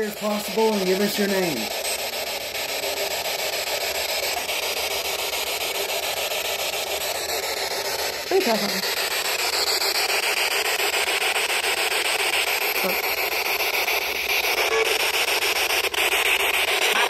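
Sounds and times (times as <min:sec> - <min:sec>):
flickering radio static: 0:00.0 - 0:17.0.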